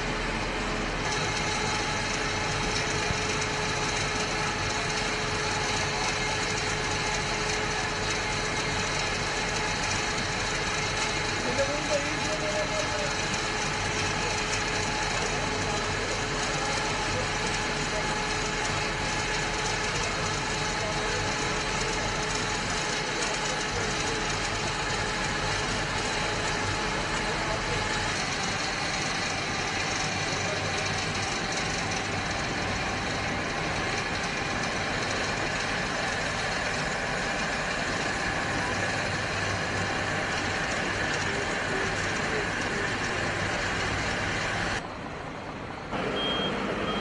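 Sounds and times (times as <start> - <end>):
engine noise: 0.0 - 47.0.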